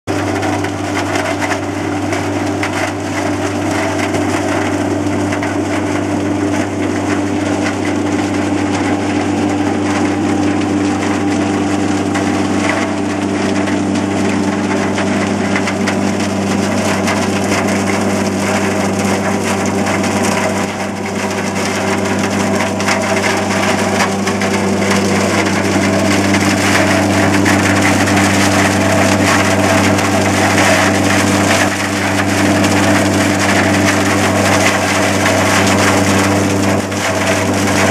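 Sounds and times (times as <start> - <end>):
tractor engine running: 0.0 - 37.9
harvester crunching clatter: 0.1 - 37.9.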